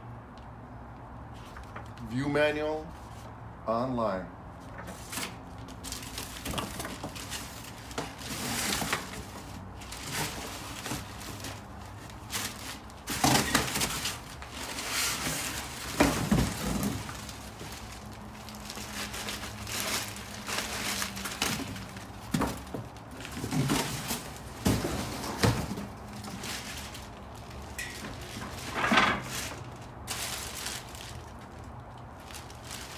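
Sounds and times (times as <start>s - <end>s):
cardboard crackling and rustling: 4.6s - 32.9s.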